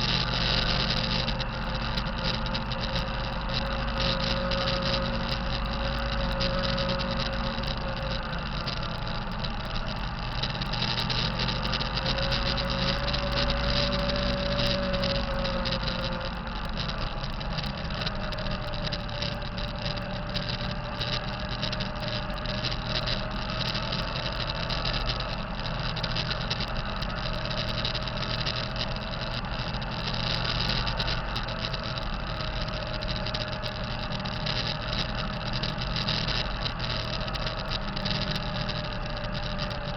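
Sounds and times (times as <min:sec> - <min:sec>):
diesel truck engine running: 0:00.0 - 0:39.9
turbocharger whine: 0:00.0 - 0:39.9.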